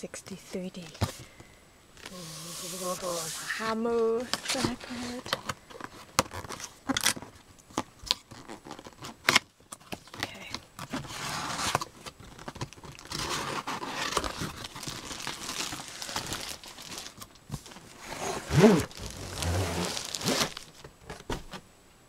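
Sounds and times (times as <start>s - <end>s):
cardboard and plastic rustling: 0.6s - 21.6s.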